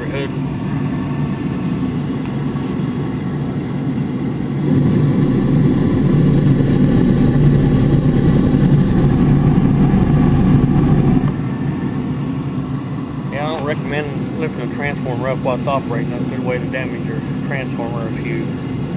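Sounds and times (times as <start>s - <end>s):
oil burner roaring steadily: 0.0s - 18.9s.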